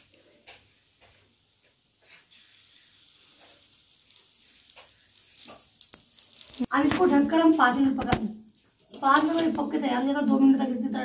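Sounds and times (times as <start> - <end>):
batter sizzling faintly in oil: 0.0 - 11.0.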